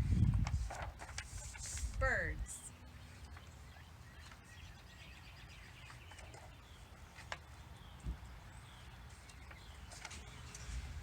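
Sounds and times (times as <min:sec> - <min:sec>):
faint birds chirping: 0:00.1 - 0:11.0.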